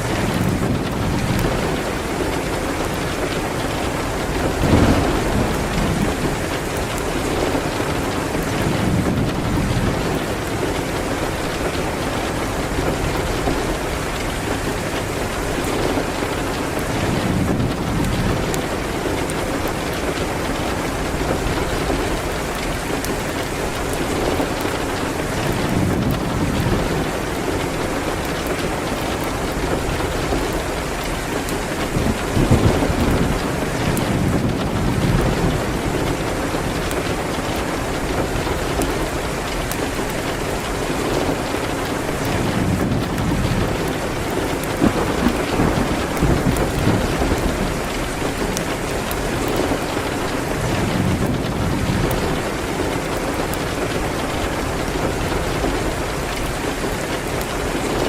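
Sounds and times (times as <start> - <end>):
low rumble of thunder: 0.0 - 58.0
rain hitting a window: 0.0 - 58.0.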